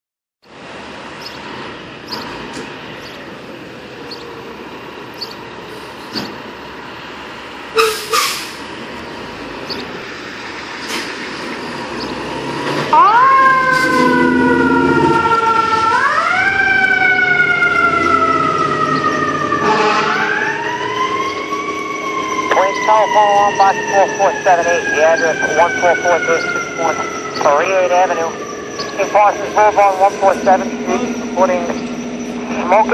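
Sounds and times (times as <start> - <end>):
fire engine siren wailing: 0.4 - 32.9
street noise: 0.4 - 32.9.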